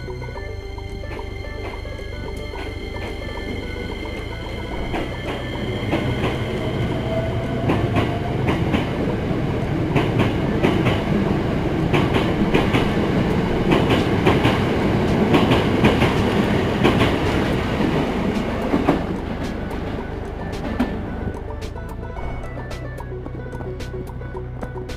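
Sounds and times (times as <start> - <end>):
train rumble: 0.0 - 24.9
wheels clacking over rail joints: 0.0 - 24.9.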